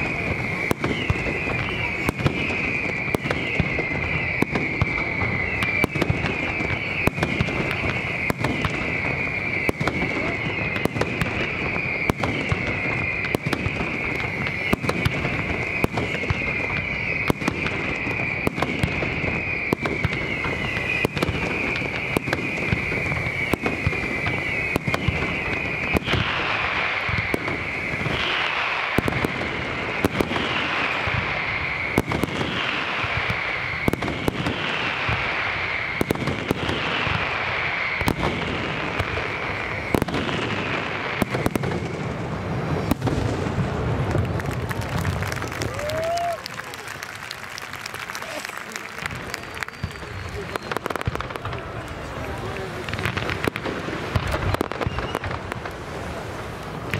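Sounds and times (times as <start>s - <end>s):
firework hissing crackle: 0.0s - 56.9s.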